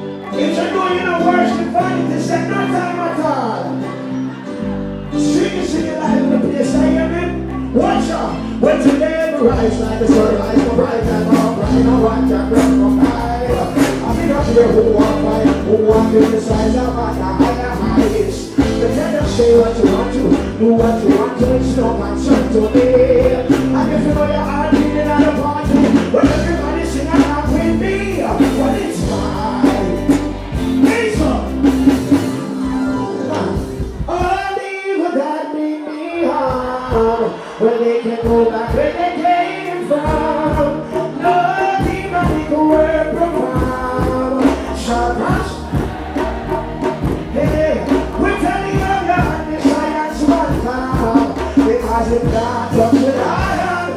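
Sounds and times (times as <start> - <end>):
man singing into a microphone: 0.0 - 31.8, 32.9 - 46.6, 47.2 - 53.9
backing music with heavy bass: 4.3 - 34.6, 38.2 - 53.9.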